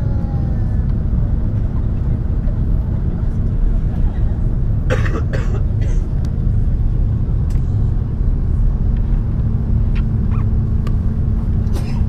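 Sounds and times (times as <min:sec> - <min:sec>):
engine and airflow rumble: 0:00.0 - 0:12.0.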